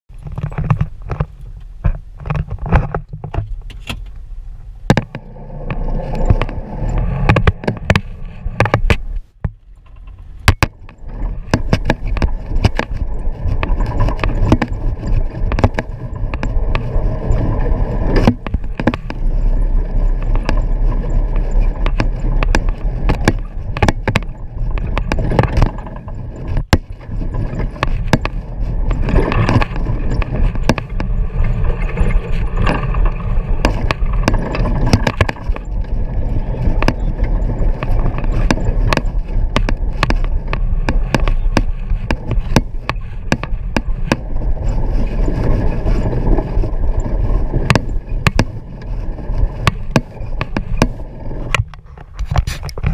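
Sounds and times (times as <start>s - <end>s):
vehicle engine and tyres rumbling: 0.0s - 52.9s
knocks and rattles over bumps: 0.1s - 52.9s.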